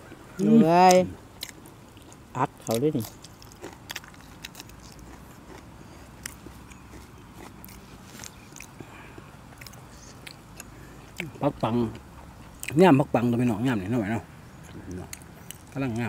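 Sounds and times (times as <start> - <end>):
crunching crisp vegetables: 0.8 - 13.8, 14.6 - 16.0.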